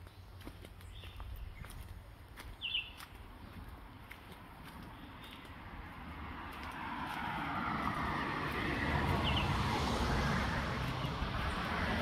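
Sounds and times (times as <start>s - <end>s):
car approaching on road: 2.2s - 12.0s.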